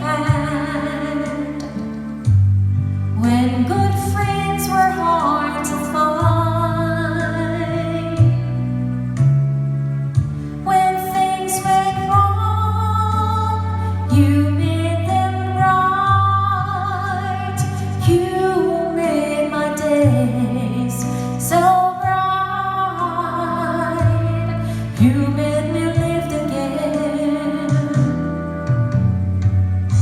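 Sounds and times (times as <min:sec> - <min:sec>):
slow love song: 0:00.0 - 0:30.0.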